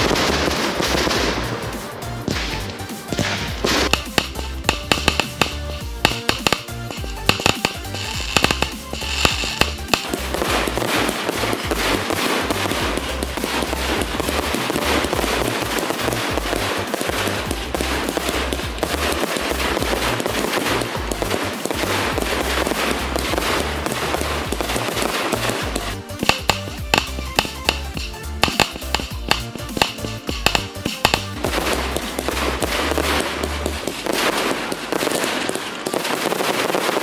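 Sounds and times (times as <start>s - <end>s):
music with steady bass line: 0.0s - 35.1s
fireworks crackling: 0.0s - 37.0s.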